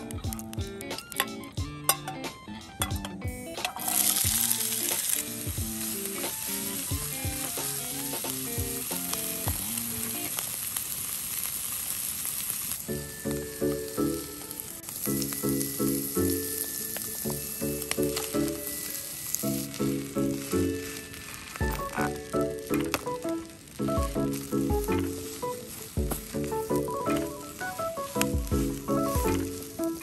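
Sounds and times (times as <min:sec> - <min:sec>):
food sizzling in frying pan: 0:02.8 - 0:30.0.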